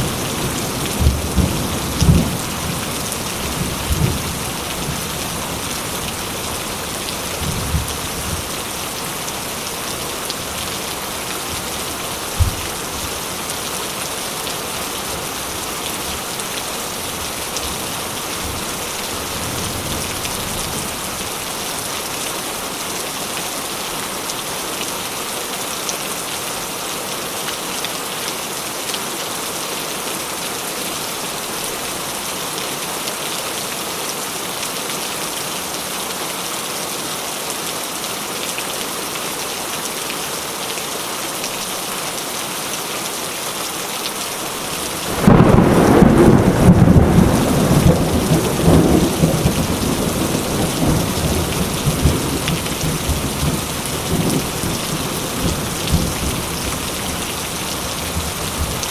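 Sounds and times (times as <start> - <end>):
dense rain pattering: 0.0 - 58.9.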